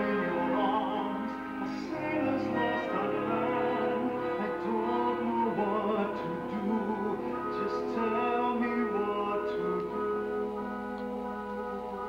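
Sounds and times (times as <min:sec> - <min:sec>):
orchestra playing: 0:00.0 - 0:12.0
person singing: 0:00.0 - 0:12.0.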